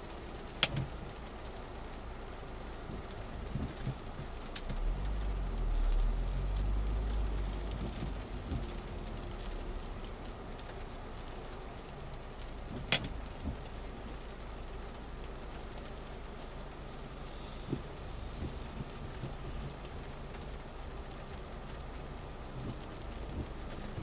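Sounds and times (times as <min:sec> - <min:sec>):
rain hissing: 0:00.0 - 0:24.0
traffic: 0:00.0 - 0:24.0.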